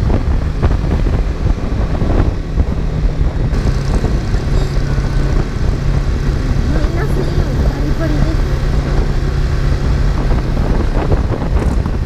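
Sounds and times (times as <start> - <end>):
motorcycle engine cruising: 0.0 - 12.0
wind rushing over microphone: 0.0 - 12.0.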